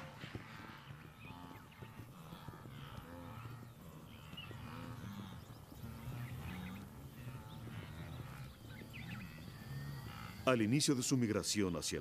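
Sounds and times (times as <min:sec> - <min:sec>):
wildebeest grunting and lowing: 0:00.0 - 0:10.7.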